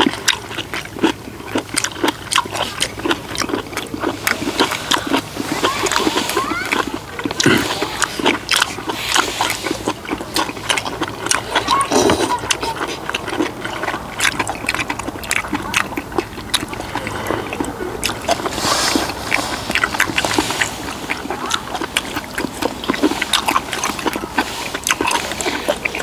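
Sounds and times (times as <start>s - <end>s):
people chewing and slurping: 0.0s - 26.0s.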